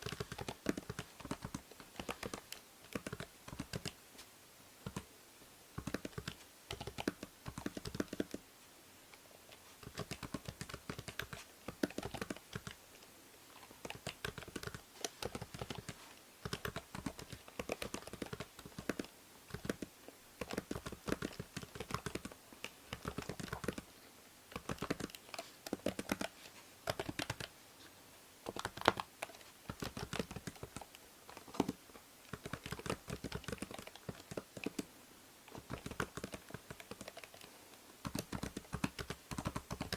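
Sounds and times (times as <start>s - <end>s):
keyboard typing: 0.0s - 4.0s, 4.8s - 5.1s, 5.8s - 8.4s, 9.8s - 12.8s, 13.8s - 23.9s, 24.5s - 27.5s, 28.4s - 34.9s, 35.5s - 39.9s
microphone hiss: 0.0s - 39.9s.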